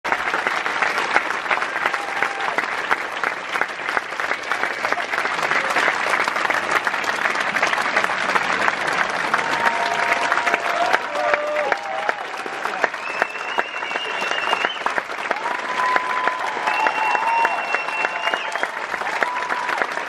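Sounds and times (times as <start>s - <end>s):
large audience applauding: 0.0s - 20.0s.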